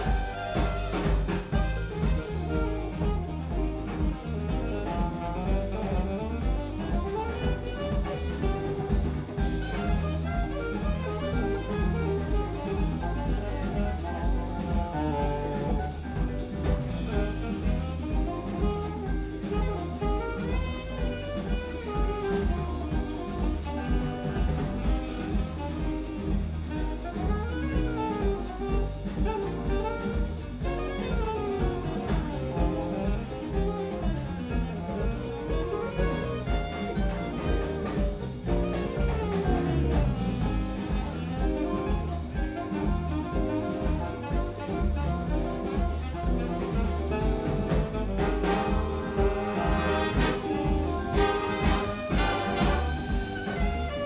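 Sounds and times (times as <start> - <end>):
bass groove: 0.0 - 54.0
drum kit: 0.0 - 54.0
saxophone solo: 0.0 - 54.0.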